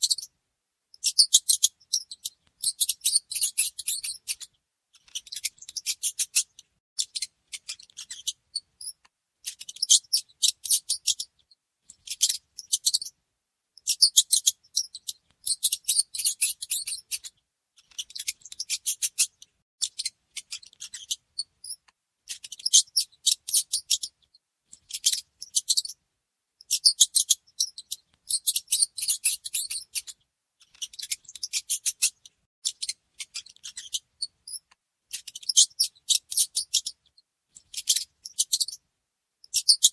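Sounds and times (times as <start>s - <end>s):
mice squeaking: 0.0s - 0.3s, 1.0s - 13.2s, 13.8s - 26.0s, 26.6s - 38.8s, 39.4s - 39.9s.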